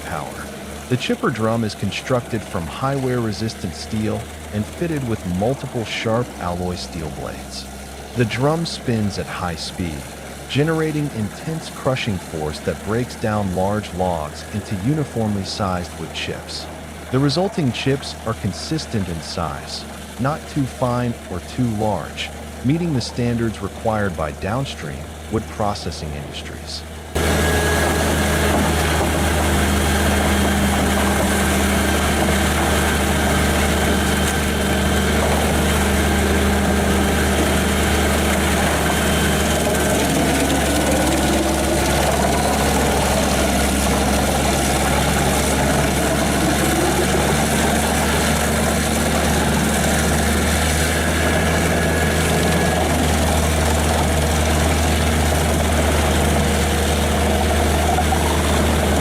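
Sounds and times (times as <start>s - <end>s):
wood chipper diesel engine running: 0.0s - 59.0s.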